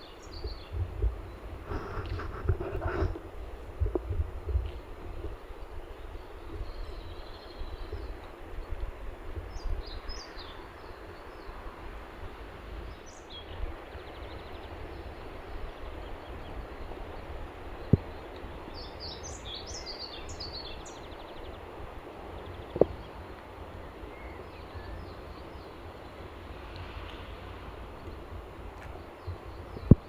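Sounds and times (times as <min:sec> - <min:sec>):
small birds chirping: 0:00.0 - 0:11.6, 0:12.9 - 0:30.0.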